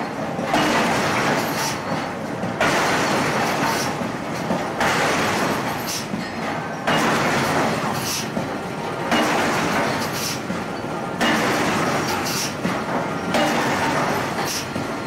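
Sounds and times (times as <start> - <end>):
forging hammer machinery surging: 0.0 - 15.0.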